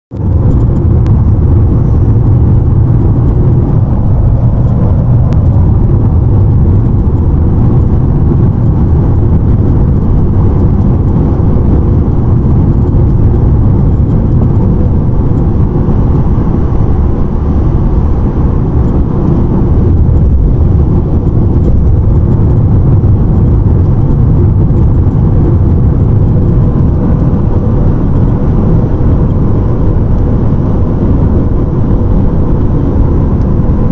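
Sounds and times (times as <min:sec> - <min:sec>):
car road and wind noise: 0:00.0 - 0:33.9.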